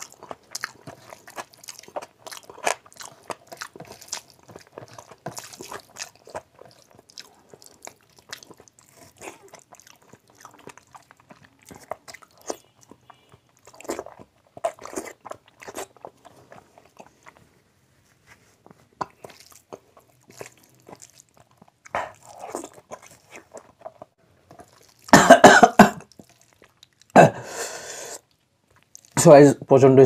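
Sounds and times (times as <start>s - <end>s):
man chewing food: 0.0s - 29.2s.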